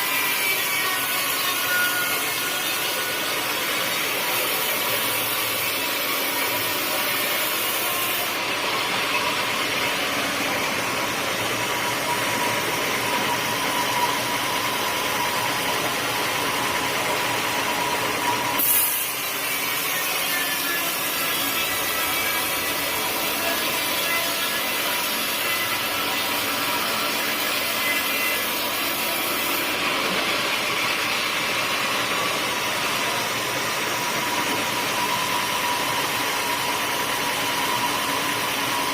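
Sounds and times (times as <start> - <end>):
saw blade cutting wood: 0.0 - 38.9.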